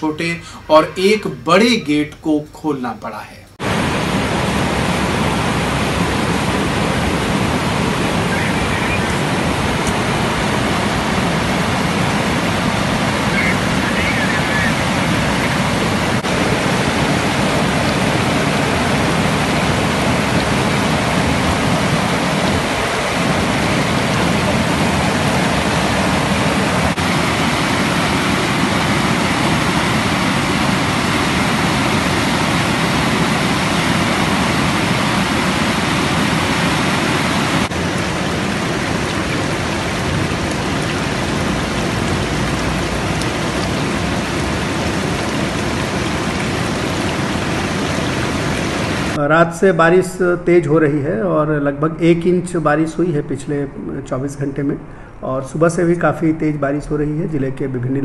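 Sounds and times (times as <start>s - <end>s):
floodwater rushing: 0.0s - 2.2s, 3.6s - 49.2s.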